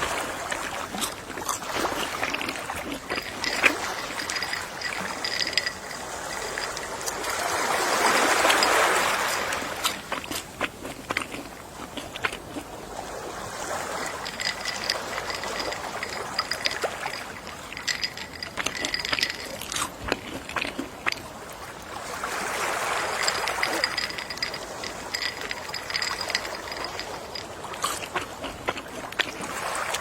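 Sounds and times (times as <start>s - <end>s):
sea waves washing ashore: 0.0s - 30.0s
small water splashes: 0.0s - 30.0s.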